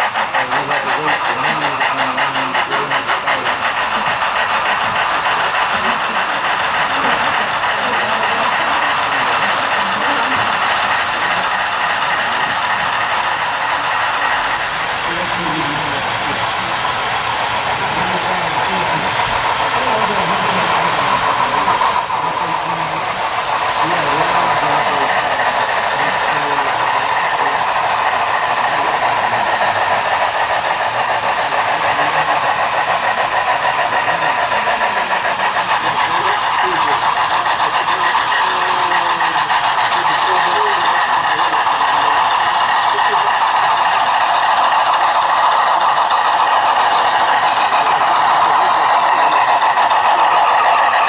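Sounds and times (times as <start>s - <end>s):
faint voices: 0.0s - 51.0s
model train wheels rolling on track: 0.0s - 51.0s.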